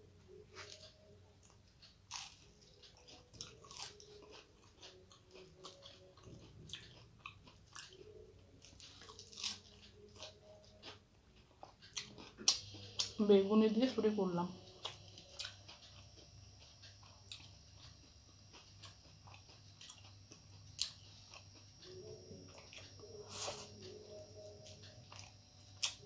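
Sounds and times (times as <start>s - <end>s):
chewing crisp fritter: 0.3s - 13.2s, 13.8s - 26.0s.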